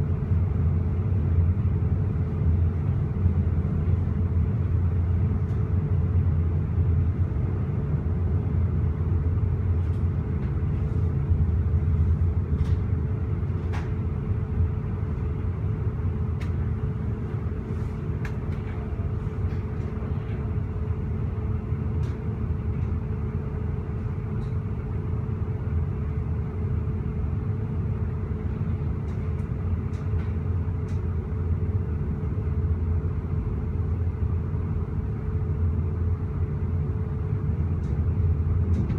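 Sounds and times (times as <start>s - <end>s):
steady hum: 0.0s - 38.9s
train rumbling on track: 0.0s - 38.9s.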